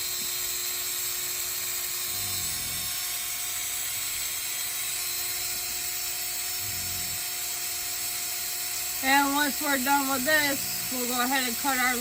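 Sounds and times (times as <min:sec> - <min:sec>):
power drill whining: 0:00.0 - 0:12.0.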